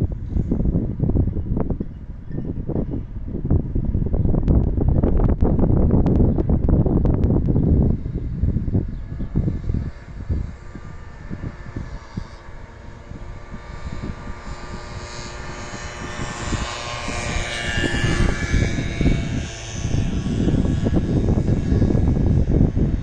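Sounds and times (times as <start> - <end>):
distant engine drone: 0.0 - 23.0
wind buffeting microphone: 0.0 - 23.0.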